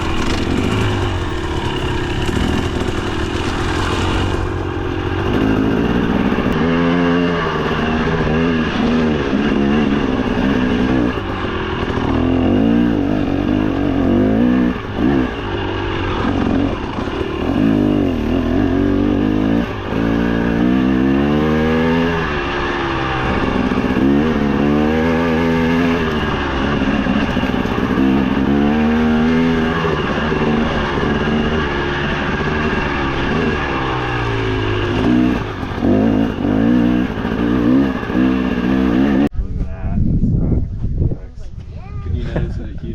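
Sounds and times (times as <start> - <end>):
dirt bike engine revving: 0.0 - 39.3.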